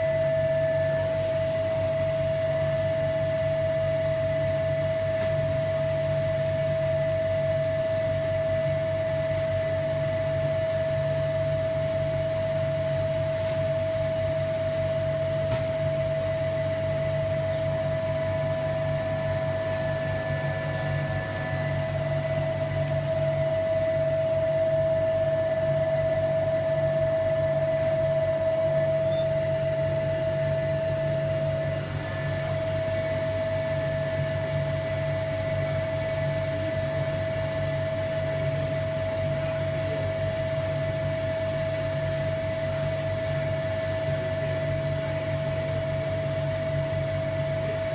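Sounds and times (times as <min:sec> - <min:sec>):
vacuum pump humming and whining: 0:00.0 - 0:47.9.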